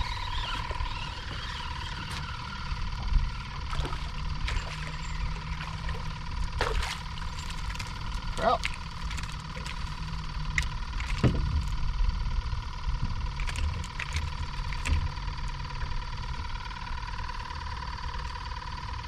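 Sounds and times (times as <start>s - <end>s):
low rumble: 0.0s - 18.6s
constant high hum: 0.0s - 19.0s.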